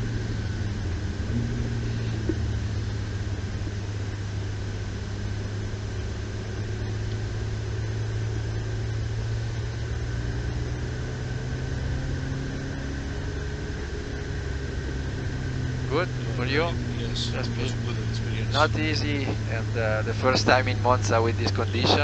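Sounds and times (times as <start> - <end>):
car engine droning at low revs: 0.0 - 22.0.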